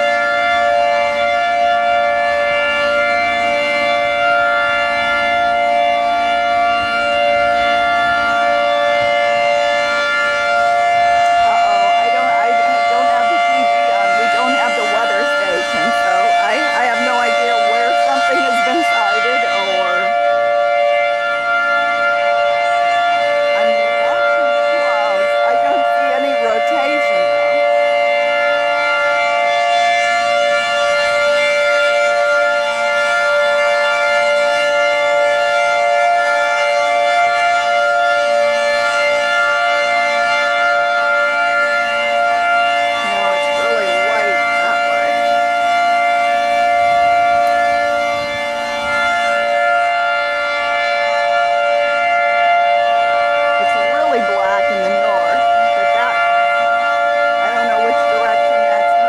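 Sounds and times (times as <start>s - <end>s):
tornado warning siren steady tone: 0.0s - 59.0s.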